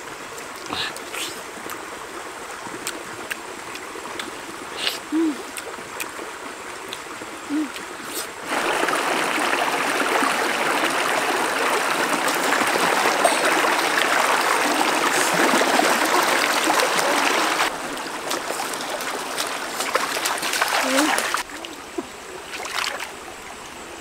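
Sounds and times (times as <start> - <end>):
river water running over rocks: 0.0 - 24.0.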